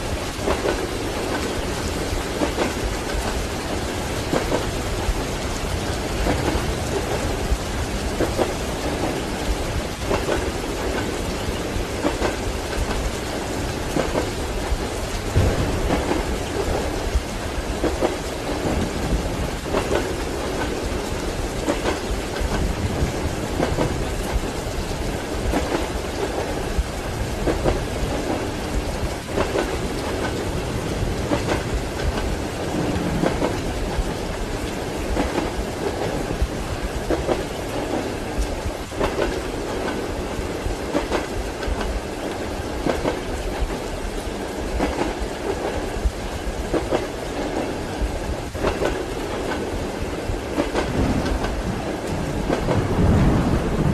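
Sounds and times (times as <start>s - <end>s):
rain pattering: 0.0s - 53.9s
train wheels clattering: 0.0s - 53.9s.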